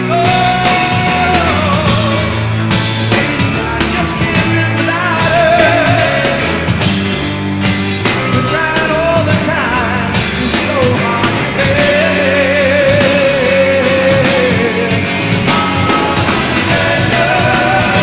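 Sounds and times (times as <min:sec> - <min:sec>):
live hard rock band playing: 0:00.0 - 0:18.0
wavering lead guitar line: 0:00.0 - 0:18.0.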